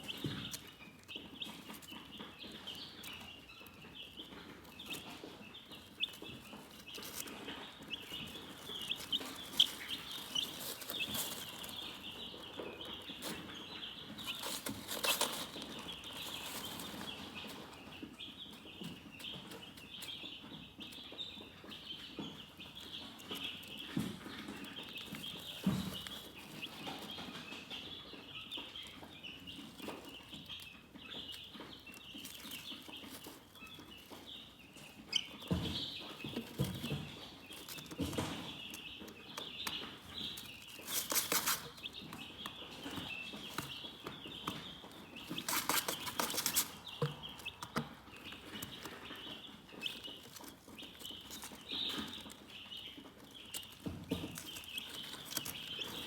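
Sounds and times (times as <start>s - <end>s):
rustling: 0.0s - 20.4s, 21.7s - 56.0s
chickens chirping: 0.0s - 56.0s.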